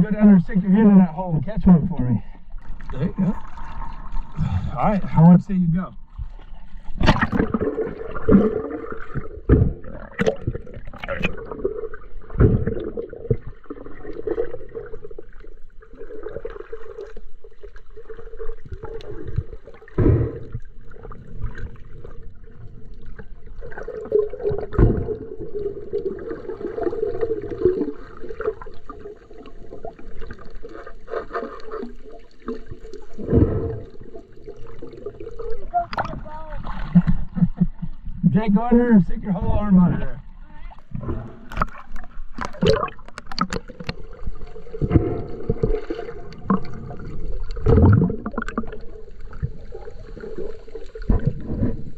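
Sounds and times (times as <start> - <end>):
water gurgling underwater: 1.7 - 5.3, 6.0 - 38.8, 39.4 - 51.9.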